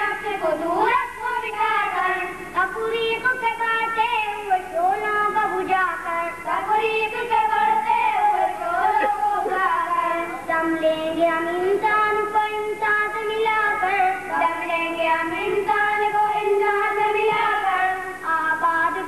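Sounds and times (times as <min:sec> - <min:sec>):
child singing into a microphone: 0:00.0 - 0:19.0.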